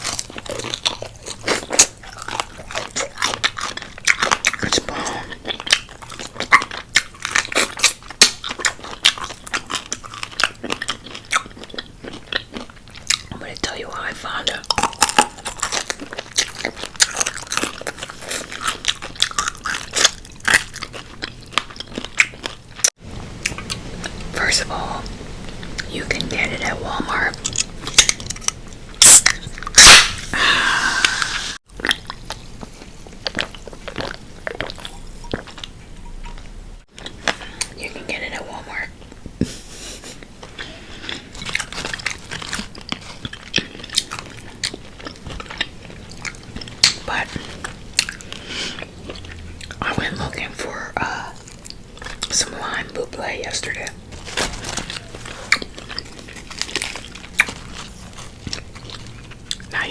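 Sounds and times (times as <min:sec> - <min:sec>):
crunching and chewing fried chicken: 0:00.0 - 0:30.1, 0:31.1 - 0:59.9.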